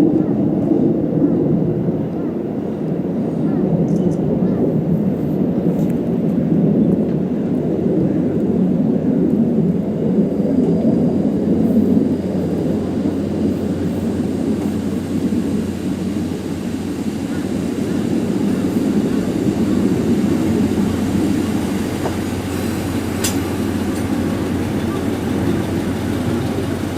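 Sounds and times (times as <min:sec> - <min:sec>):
diesel train rumble: 0:00.0 - 0:26.9.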